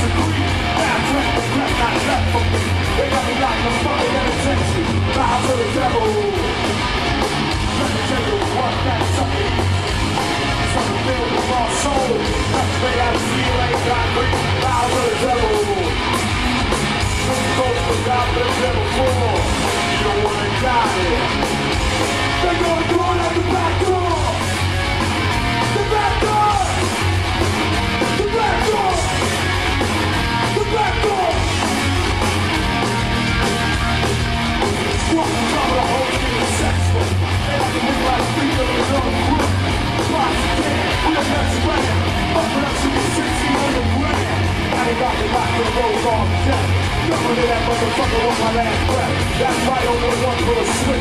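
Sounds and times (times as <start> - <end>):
bass: 0.0 - 51.0
distorted electric guitars: 0.0 - 51.0
drums: 0.0 - 51.0
yelled vocals: 0.0 - 51.0.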